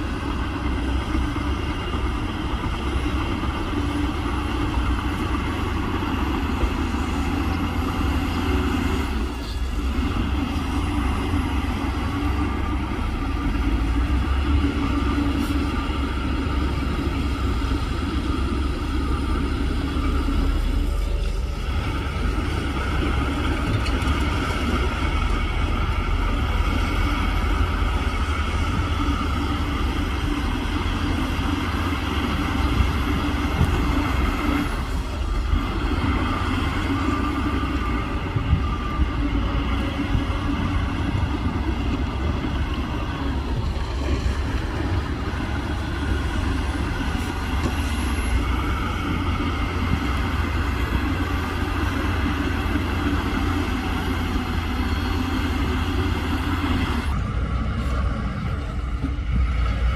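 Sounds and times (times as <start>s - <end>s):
bulldozer diesel engine rumbling: 0.0s - 59.9s.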